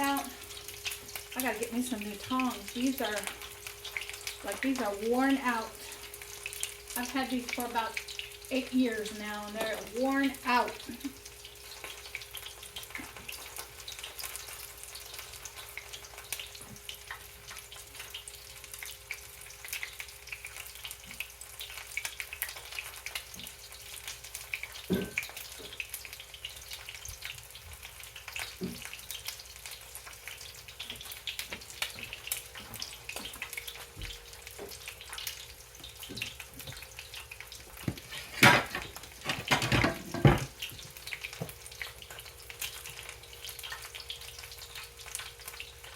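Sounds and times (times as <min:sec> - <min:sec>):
chicken deep-frying in hot oil: 0:00.0 - 0:45.9.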